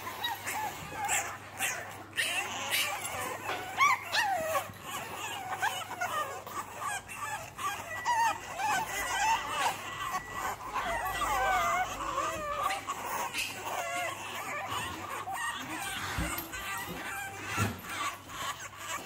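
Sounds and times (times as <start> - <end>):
puppies whining and yipping: 0.0 - 19.0.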